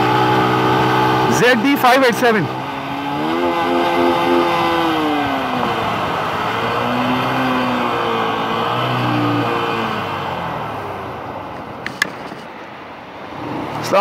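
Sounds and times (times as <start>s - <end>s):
motorcycle engine running: 0.0s - 12.4s
wind and road noise: 0.0s - 14.0s.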